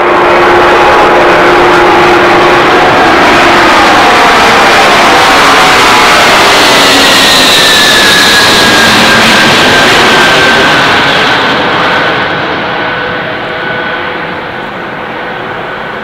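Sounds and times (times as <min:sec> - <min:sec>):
jet aircraft roar with whine: 0:00.0 - 0:16.0.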